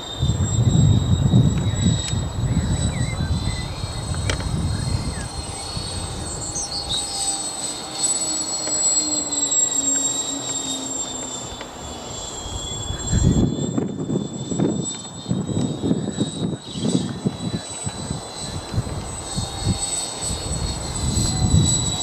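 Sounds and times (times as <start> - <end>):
low rumbling noise: 0.0 - 22.0
model plane motors droning: 0.0 - 22.0.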